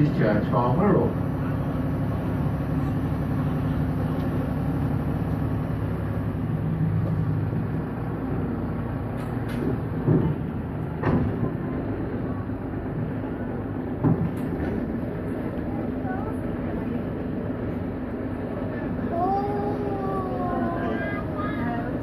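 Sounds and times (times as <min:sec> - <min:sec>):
tractor engine running: 0:00.0 - 0:18.6.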